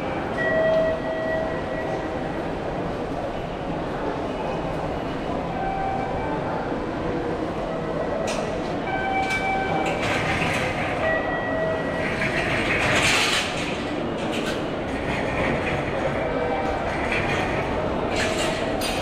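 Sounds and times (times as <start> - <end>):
rumble and hubbub: 0.0 - 19.0.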